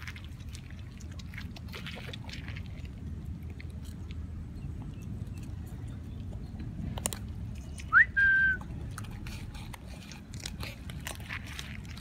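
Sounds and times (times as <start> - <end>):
puppies chewing and lapping: 0.0 - 12.0.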